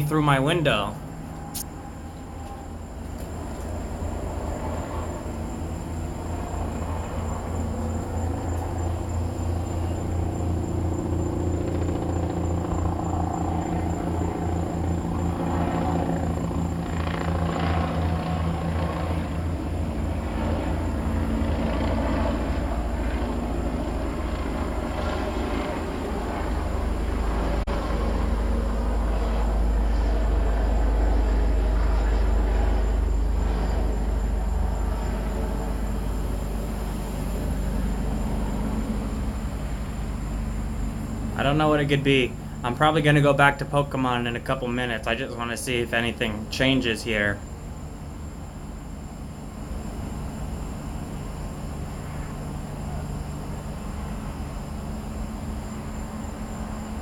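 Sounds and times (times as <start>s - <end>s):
helicopter rotor beating overhead: 0.0s - 57.0s.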